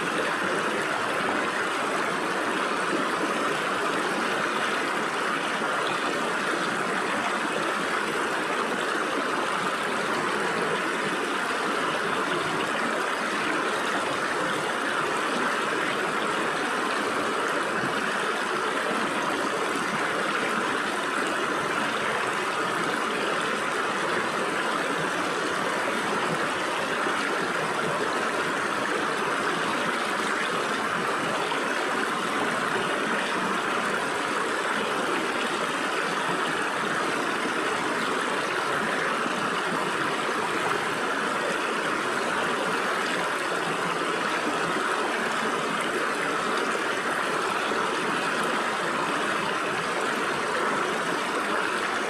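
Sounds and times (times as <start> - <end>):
stream water splashing over rocks: 0.0 - 52.0.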